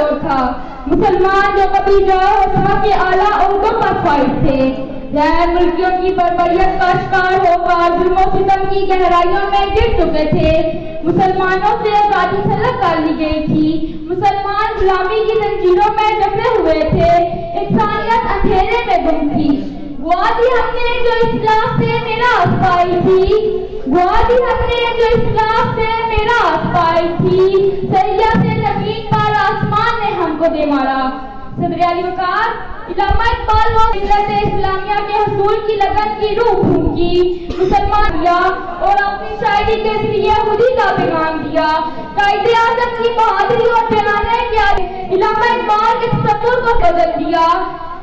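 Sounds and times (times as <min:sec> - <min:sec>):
boy singing into microphone: 0:00.9 - 0:30.5, 0:33.0 - 0:47.7.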